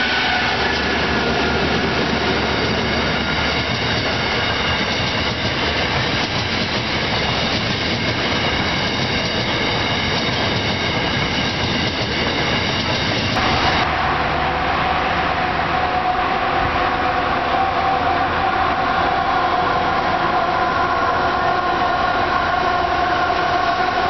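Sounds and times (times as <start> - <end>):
high wheel squeal: 0.0 - 24.0
locomotive engine hum: 0.0 - 24.0
train wheels rolling on rails: 0.0 - 24.0.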